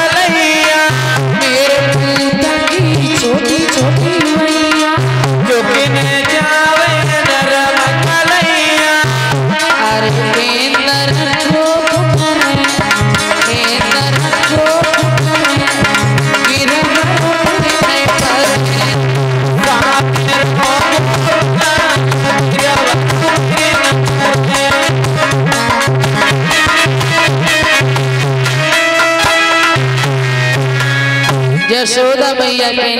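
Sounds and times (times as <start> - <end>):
hand drum rhythm: 0.0 - 31.9
sustained melody line: 0.0 - 32.9.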